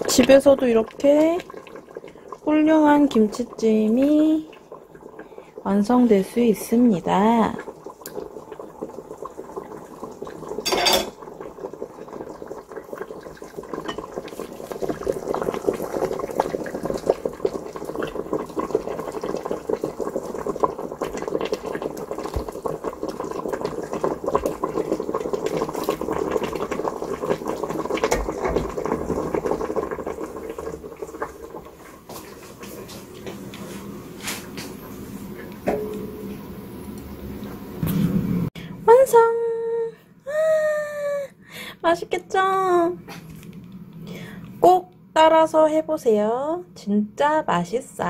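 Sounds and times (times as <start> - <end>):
stew bubbling at a simmer: 0.0 - 38.6.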